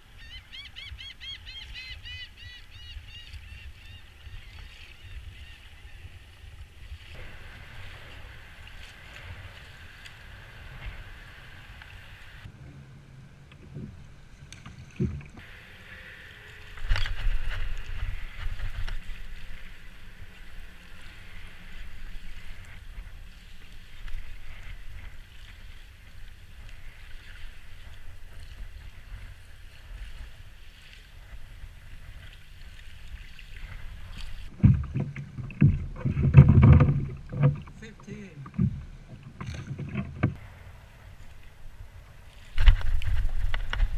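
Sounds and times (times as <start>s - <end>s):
water lapping around kayak: 0.0s - 43.9s
wind buffeting microphone: 1.6s - 14.2s, 15.0s - 37.6s, 38.7s - 43.9s.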